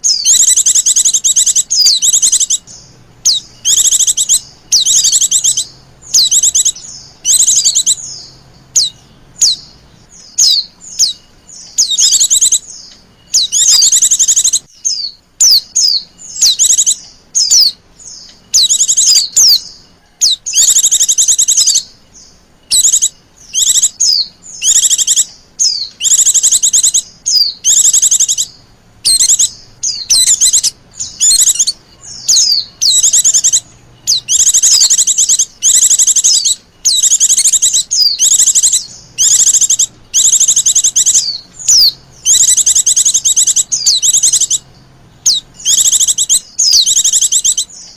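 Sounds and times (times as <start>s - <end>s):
white-eyes chattering calls: 0.0s - 47.9s.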